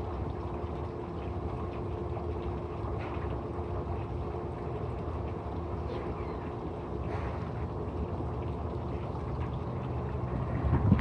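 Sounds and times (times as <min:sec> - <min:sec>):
pump humming: 0:00.0 - 0:11.0
water flowing and gurgling: 0:00.0 - 0:11.0.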